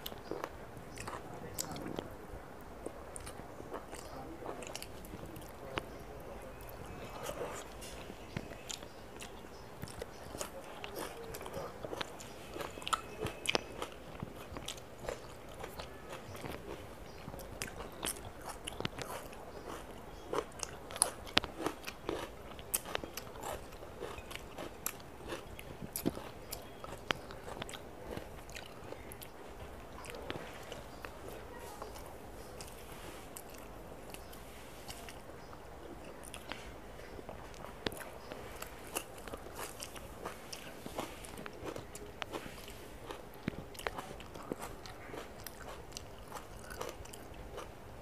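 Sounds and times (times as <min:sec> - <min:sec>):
person chewing: 0:00.0 - 0:02.0, 0:02.8 - 0:47.8.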